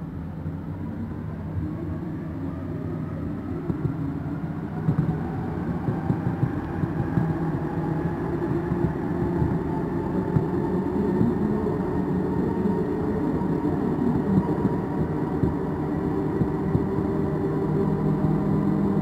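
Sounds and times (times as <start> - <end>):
train rumble with motor whine: 0.0 - 19.0.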